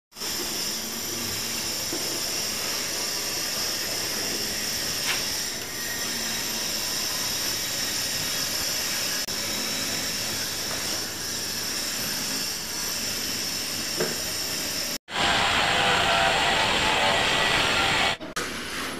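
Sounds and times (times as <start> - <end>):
machine drone with high hiss: 0.2 - 18.3.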